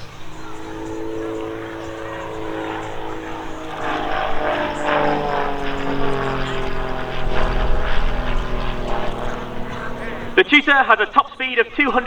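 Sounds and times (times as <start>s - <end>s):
propeller plane droning past: 0.0s - 12.0s.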